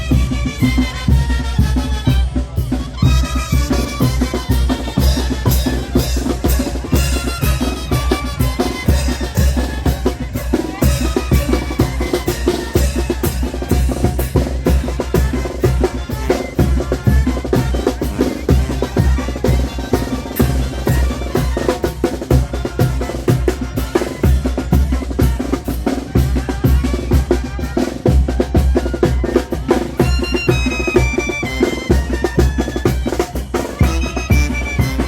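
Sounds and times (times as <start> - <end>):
bass drum and snare beat: 0.0 - 35.0
wind instruments melody: 0.0 - 35.0.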